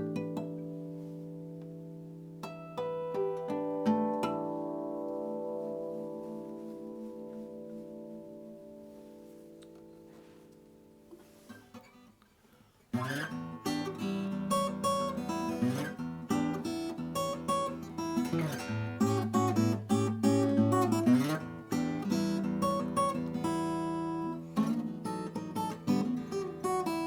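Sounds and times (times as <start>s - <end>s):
acoustic guitar strummed and picked: 0.0s - 12.2s, 12.9s - 27.0s.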